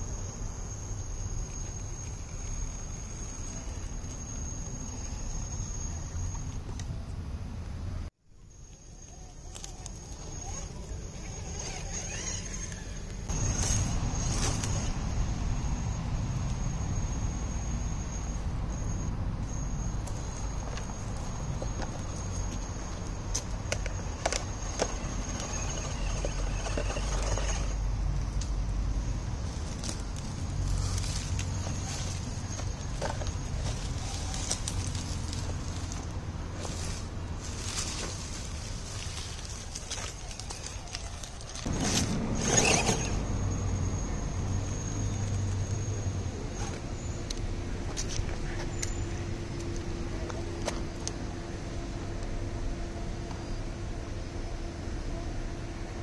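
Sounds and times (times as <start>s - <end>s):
cricket trill: 0.0s - 7.3s, 8.4s - 55.9s.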